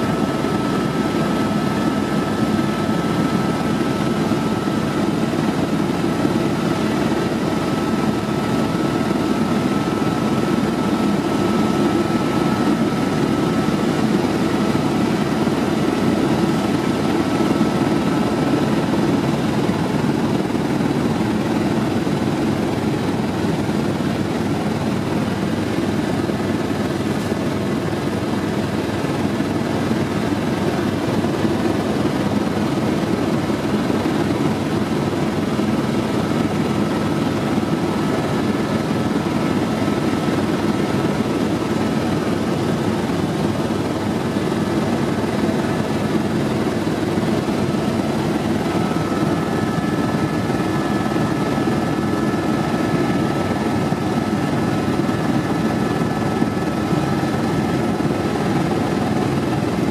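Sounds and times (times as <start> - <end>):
thin steady whine: 0.0 - 23.6, 30.6 - 59.9
helicopter engine and rotor drone: 0.0 - 59.9.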